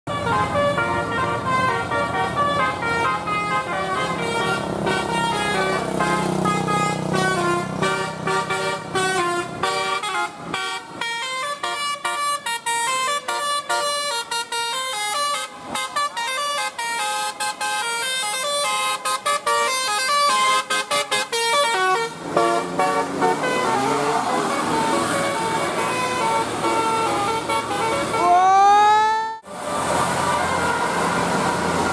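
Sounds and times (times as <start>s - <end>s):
multi-tone air horn tunes: 0.1s - 31.9s.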